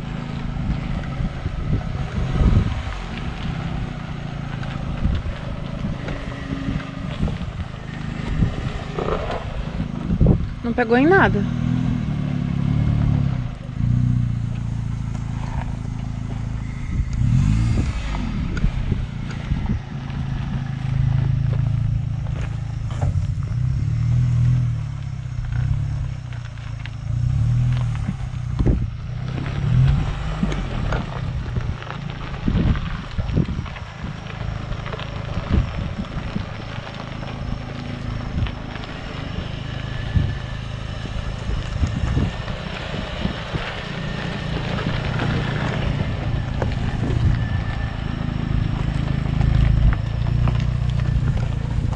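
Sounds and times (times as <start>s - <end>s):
off-road vehicle engine crawling: 0.0s - 51.9s.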